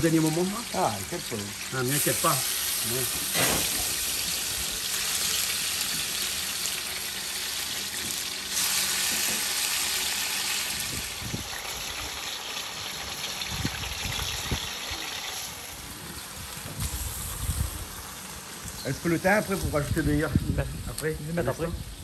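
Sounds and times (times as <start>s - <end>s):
meat sizzling in oil: 0.0s - 20.8s.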